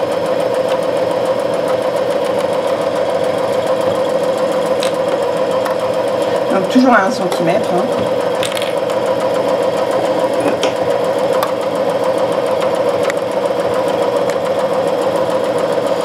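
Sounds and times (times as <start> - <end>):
sewing machine running: 0.0 - 16.0.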